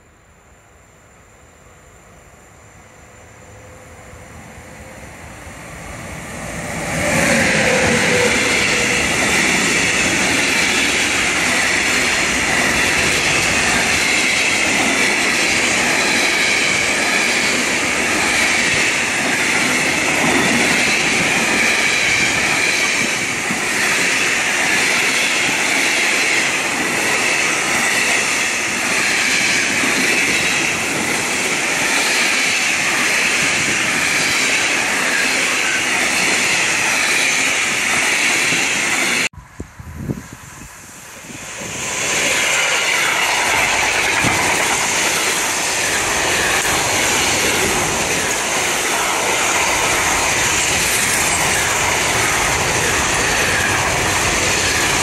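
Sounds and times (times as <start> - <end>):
freight train wagons rolling past: 3.4 - 39.3, 40.3 - 55.0.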